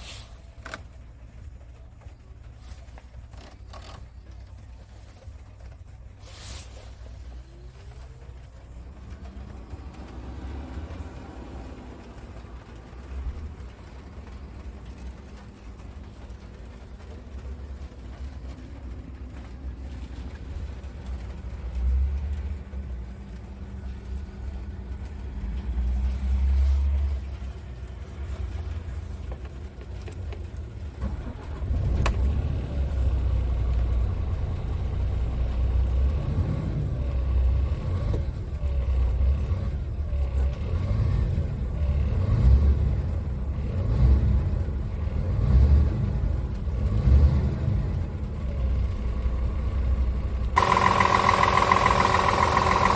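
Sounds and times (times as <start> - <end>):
diesel truck engine rumbling: 0.0 - 52.9.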